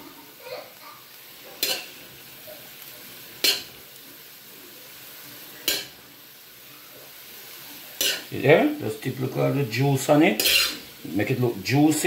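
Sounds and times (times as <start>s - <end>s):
vegetables sizzling: 0.0s - 12.0s.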